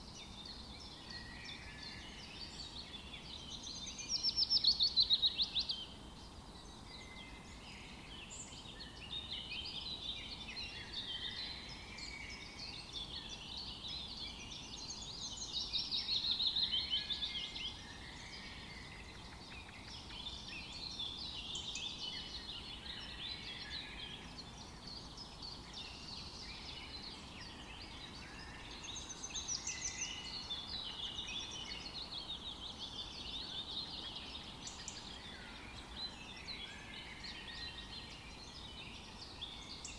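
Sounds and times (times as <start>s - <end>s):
faint steady hiss: 0.0s - 39.9s
songbirds singing: 0.0s - 39.9s.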